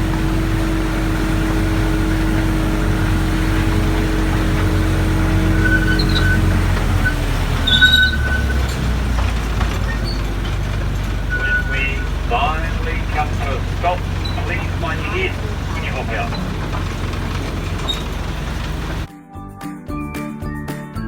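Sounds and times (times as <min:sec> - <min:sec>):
short high squeaks: 0:00.0 - 0:19.1
train engine hum: 0:00.0 - 0:19.1.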